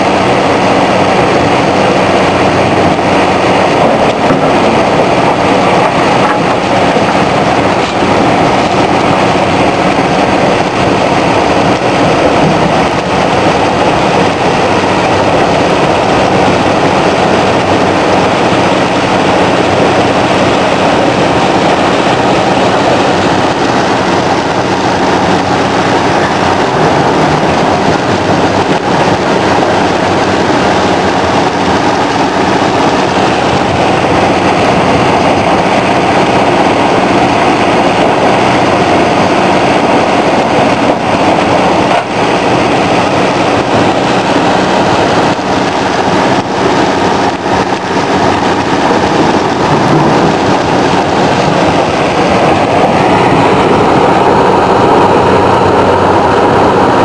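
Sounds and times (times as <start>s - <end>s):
diesel engine din: 0.0s - 57.0s.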